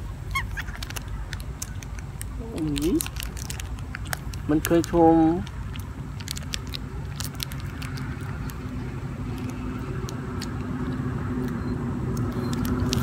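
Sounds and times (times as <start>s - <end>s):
low engine-like hum: 0.0s - 13.0s
snack wrapper handled: 0.3s - 13.0s.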